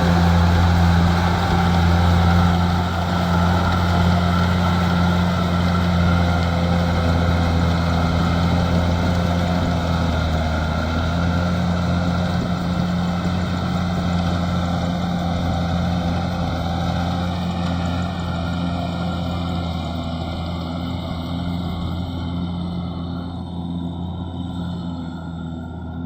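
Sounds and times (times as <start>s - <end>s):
combine harvester engine running: 0.0s - 26.0s.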